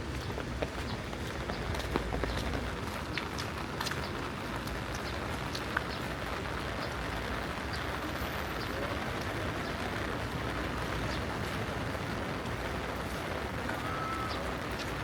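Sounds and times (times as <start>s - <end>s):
faint voices of passers-by: 0.0s - 15.0s
rain: 0.0s - 15.0s
traffic noise: 0.0s - 15.0s.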